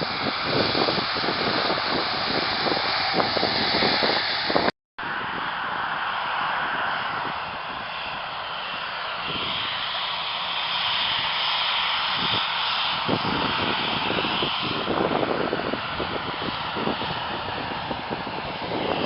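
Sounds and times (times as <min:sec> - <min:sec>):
aircraft engines running: 0:00.0 - 0:19.0.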